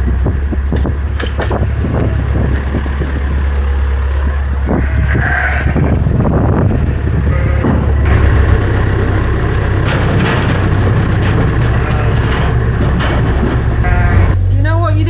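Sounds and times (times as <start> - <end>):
knocks and rattles: 0.0 - 14.4
farm vehicle engine running: 0.0 - 15.0.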